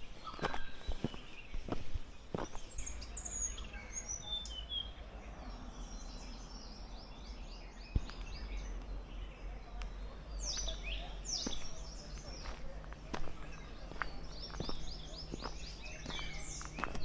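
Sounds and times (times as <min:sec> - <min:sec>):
songbirds whistling: 0:00.0 - 0:17.0.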